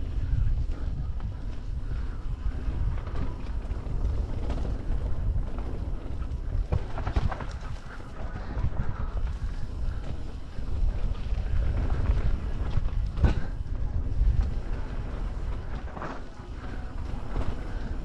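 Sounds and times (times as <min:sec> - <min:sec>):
bike rattling: 0:00.0 - 0:18.0
wind buffeting microphone: 0:00.0 - 0:18.0
tyres on dirt and gravel: 0:00.7 - 0:18.0.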